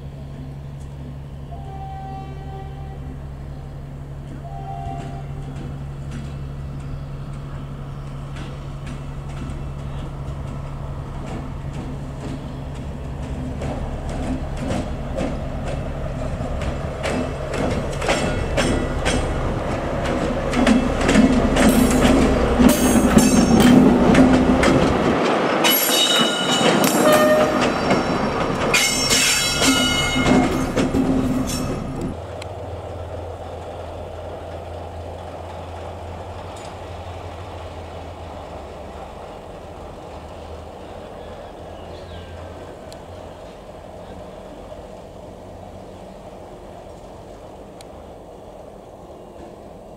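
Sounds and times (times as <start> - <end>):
diesel locomotive engine droning: 0.0 - 49.9
wheels clicking over rail joints: 3.8 - 49.9.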